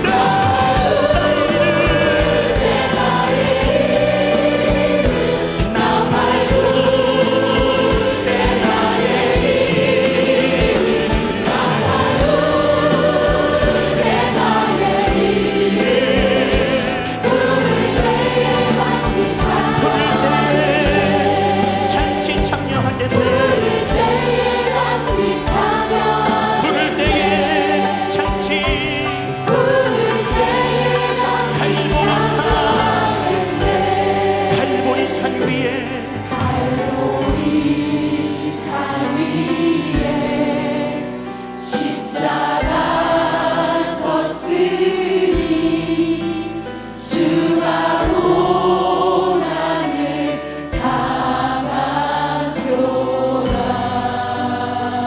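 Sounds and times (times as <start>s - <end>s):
choir singing a hymn: 0.0s - 55.0s
instrumental accompaniment: 0.0s - 55.0s.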